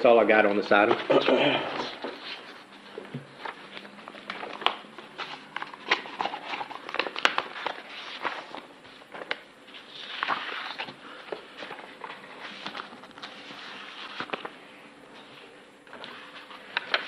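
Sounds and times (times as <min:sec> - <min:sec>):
paper rustling and clicks: 0:00.3 - 0:14.6, 0:15.9 - 0:17.0.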